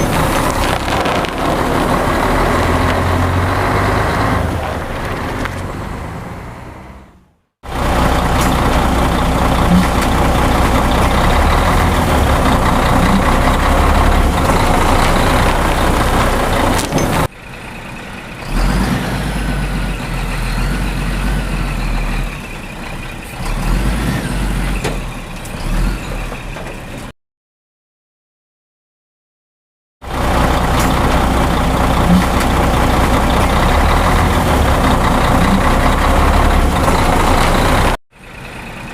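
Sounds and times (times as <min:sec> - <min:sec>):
heavy truck engine running: 0:00.0 - 0:27.1, 0:30.0 - 0:38.9.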